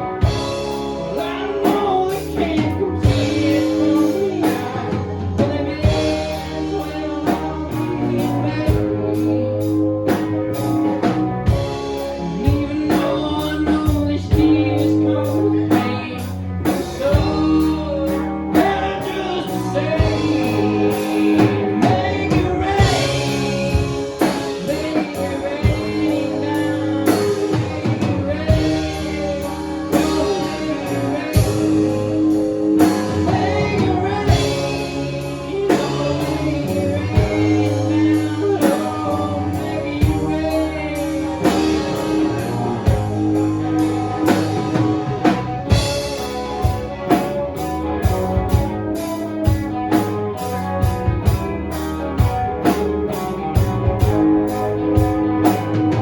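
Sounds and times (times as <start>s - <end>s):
blues-rock band playing: 0.0s - 56.0s
person singing: 0.0s - 56.0s
steady drum beat: 0.0s - 56.0s.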